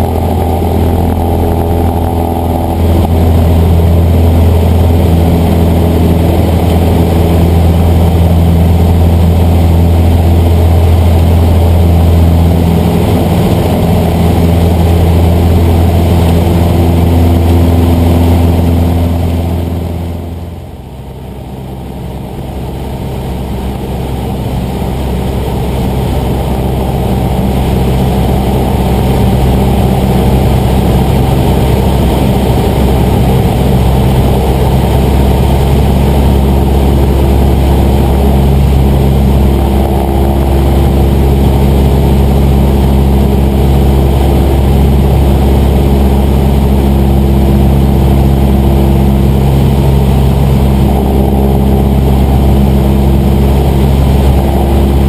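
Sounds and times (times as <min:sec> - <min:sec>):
small plane engine drone: 0:00.0 - 0:55.0.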